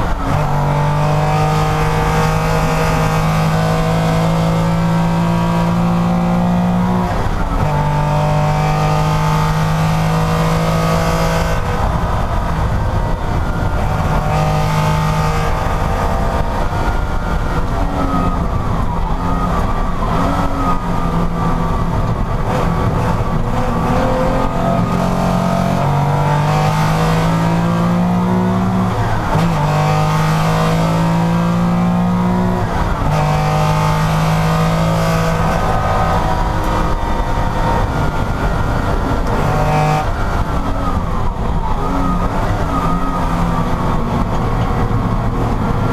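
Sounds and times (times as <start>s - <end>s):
racing car engine changing gear: 0.0s - 45.9s.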